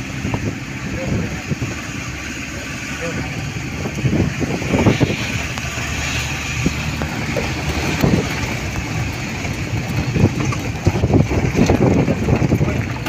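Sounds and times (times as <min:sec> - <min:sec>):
vehicle engine and tyre noise: 0:00.0 - 0:13.0
wind gusting on microphone: 0:00.0 - 0:13.0.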